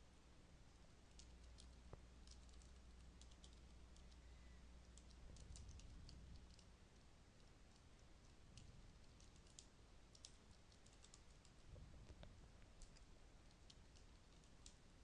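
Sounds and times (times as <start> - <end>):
faint low hum: 0.0 - 15.0
keyboard typing: 1.1 - 4.2, 4.9 - 6.7, 7.4 - 14.8.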